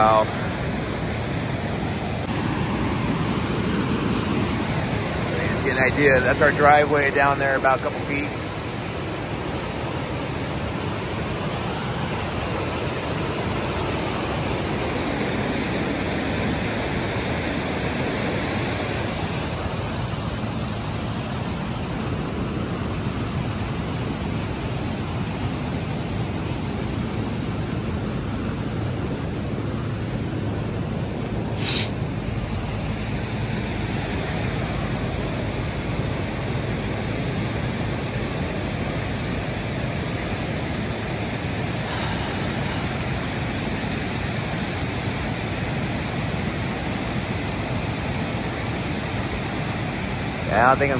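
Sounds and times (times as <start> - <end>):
creek rushing: 0.0 - 50.9.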